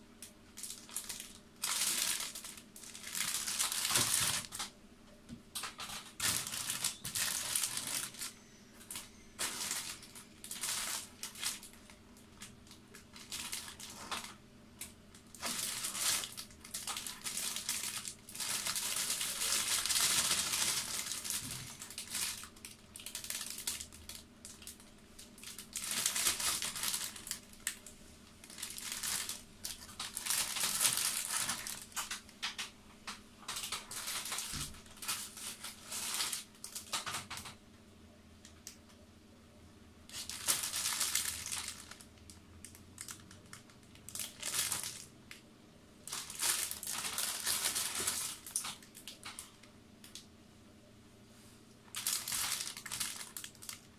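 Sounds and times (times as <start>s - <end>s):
plastic bags crinkling: 0.2s - 4.7s, 5.5s - 37.6s, 40.1s - 45.4s, 46.0s - 49.7s, 51.8s - 53.9s.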